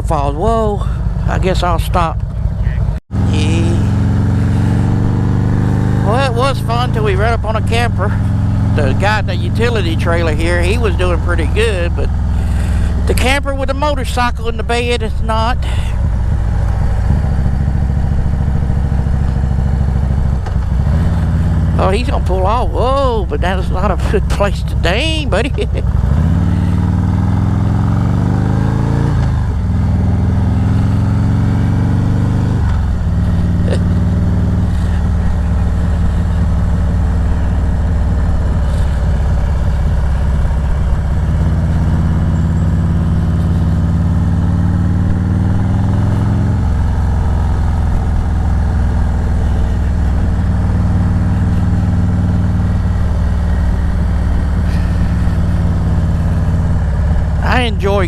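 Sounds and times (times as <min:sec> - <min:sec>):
motorcycle engine pulling hard: 0:00.0 - 0:58.0.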